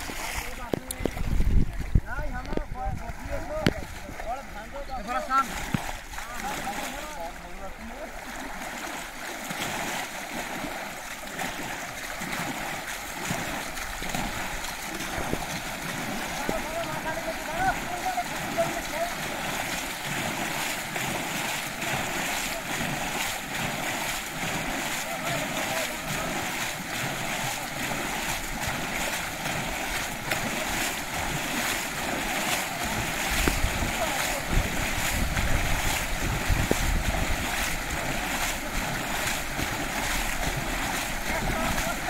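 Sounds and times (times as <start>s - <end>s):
water splashing and sloshing: 0.0s - 42.0s.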